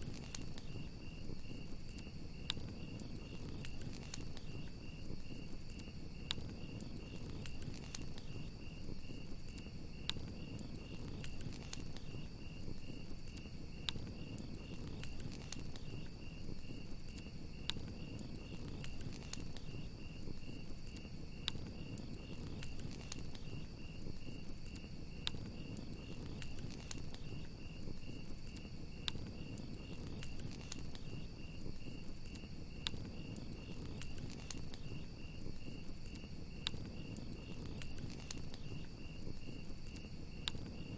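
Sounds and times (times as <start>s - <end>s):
campfire crackling and popping: 0.0s - 40.9s
crickets chirping: 0.0s - 40.9s
low rush of flames: 0.0s - 40.9s.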